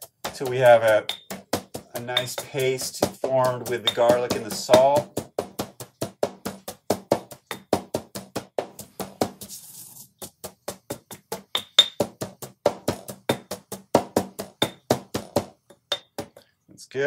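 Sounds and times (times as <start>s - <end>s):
pestle pounding in a mortar: 0.0s - 9.6s, 10.2s - 16.4s.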